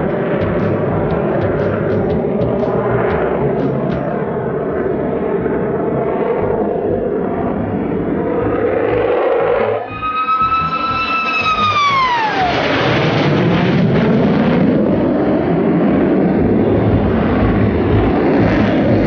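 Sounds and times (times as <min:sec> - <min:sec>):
jet fighter fly-by: 0:00.0 - 0:19.0.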